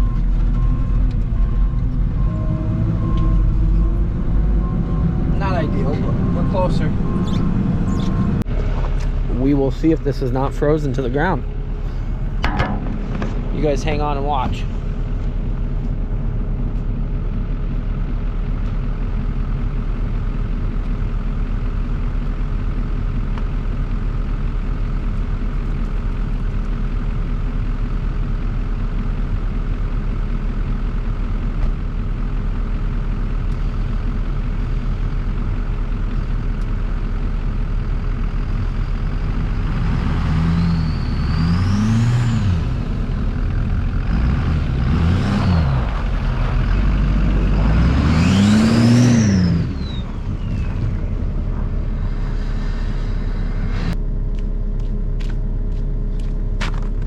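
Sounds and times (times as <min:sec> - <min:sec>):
large engine running and revving: 0:00.0 - 0:57.0.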